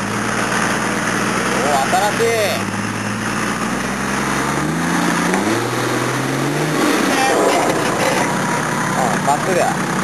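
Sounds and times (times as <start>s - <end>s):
off-road engine revving under load: 0.0s - 10.0s.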